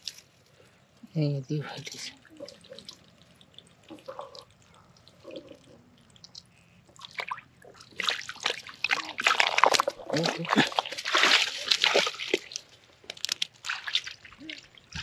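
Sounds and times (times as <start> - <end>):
water dripping: 0.0 - 15.0
water splashing and sloshing: 0.0 - 15.0.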